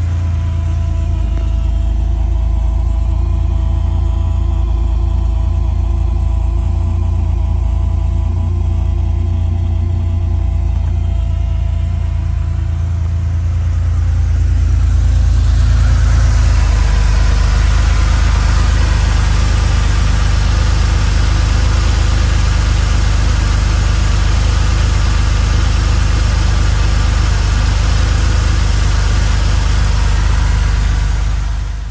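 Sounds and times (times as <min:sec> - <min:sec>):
car engine warming up: 0:00.0 - 0:31.9.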